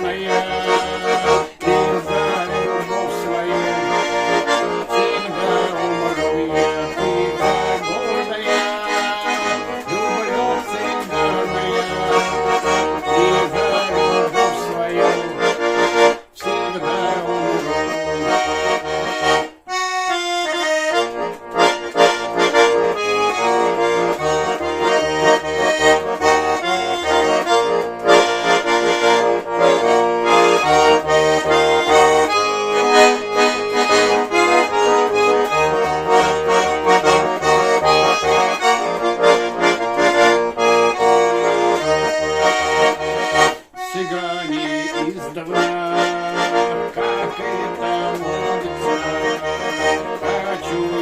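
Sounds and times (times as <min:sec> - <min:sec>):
button accordion playing: 0:00.0 - 0:51.0.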